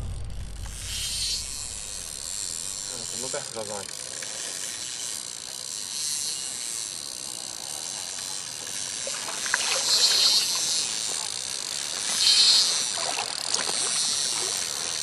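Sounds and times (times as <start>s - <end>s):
spinning fishing reel: 0.0s - 15.0s
wind: 0.0s - 15.0s.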